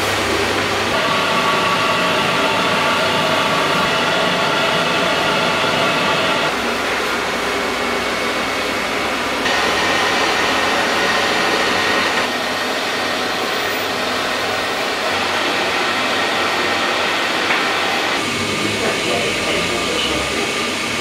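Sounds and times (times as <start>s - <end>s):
gas torch flame roaring: 0.0s - 21.0s.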